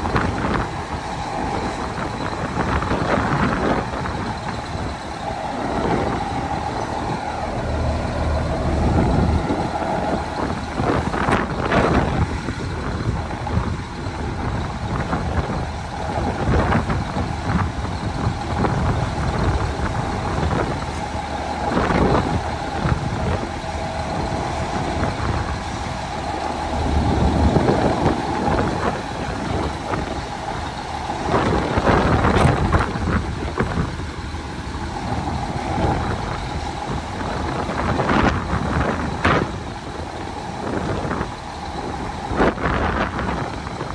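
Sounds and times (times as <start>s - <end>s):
dump truck engines running: 0.0s - 43.9s.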